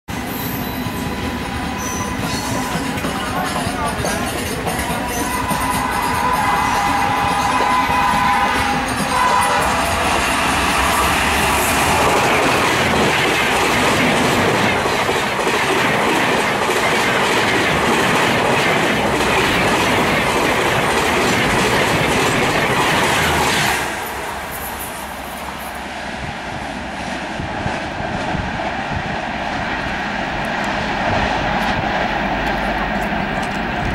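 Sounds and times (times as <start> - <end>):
train passing at speed: 0.1 - 33.9
train rumbling away: 0.1 - 33.9.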